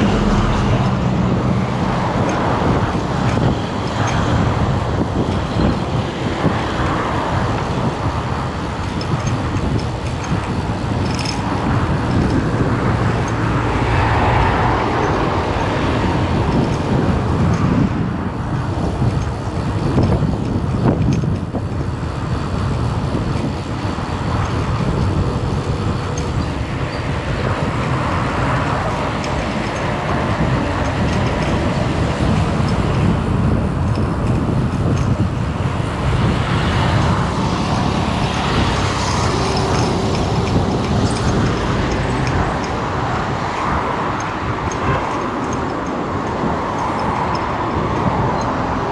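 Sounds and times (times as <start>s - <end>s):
vehicle engine and tyre rumble: 0.0s - 48.9s.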